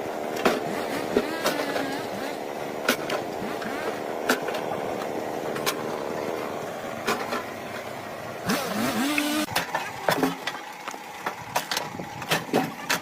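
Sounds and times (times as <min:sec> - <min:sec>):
engine-driven machine running: 0:00.0 - 0:13.0.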